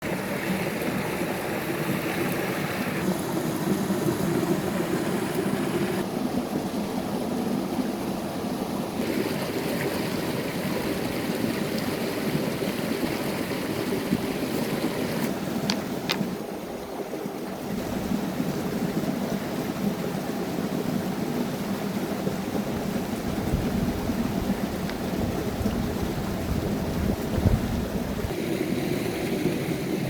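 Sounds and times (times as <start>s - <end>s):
running water rushing: 0.0s - 30.0s.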